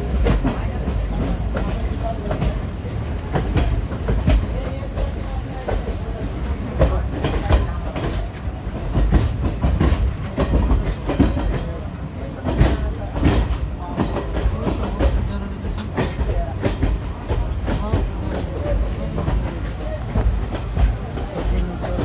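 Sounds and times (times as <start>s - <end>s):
train rumbling: 0.0s - 22.0s
wheels clicking on track: 0.0s - 22.0s.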